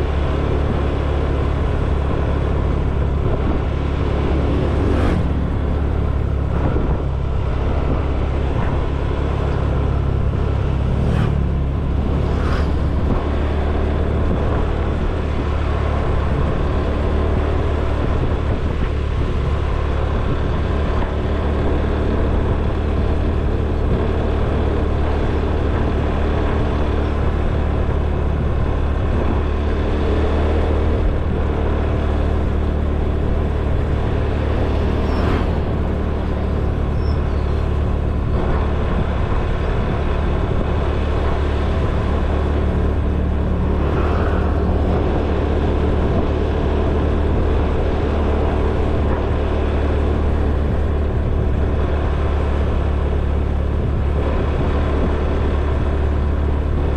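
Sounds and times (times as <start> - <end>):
road noise: 0.0 - 56.9.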